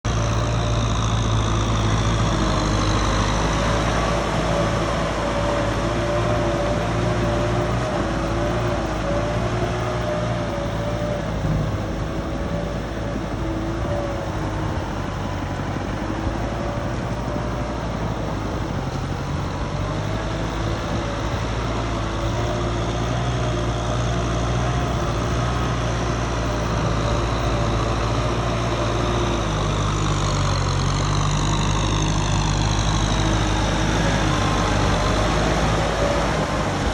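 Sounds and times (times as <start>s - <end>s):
tractor engine running: 0.0s - 36.9s
rotary tiller whining: 0.1s - 36.9s.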